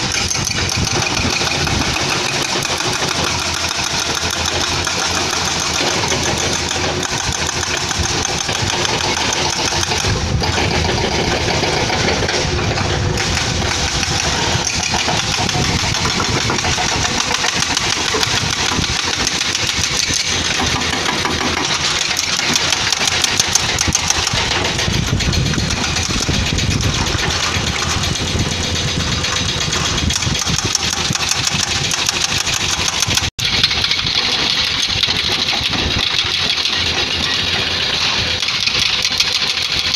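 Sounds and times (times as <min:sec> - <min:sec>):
diesel engine running under load: 0:00.0 - 0:39.9
hydraulic breaker hammering rock: 0:00.0 - 0:39.9.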